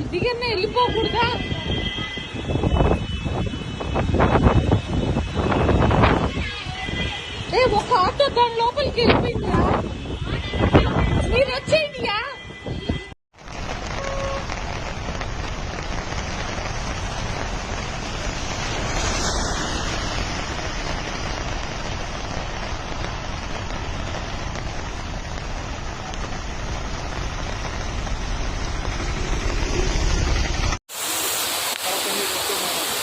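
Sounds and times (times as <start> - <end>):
heavy rain pouring: 0.0 - 11.6, 13.4 - 33.0.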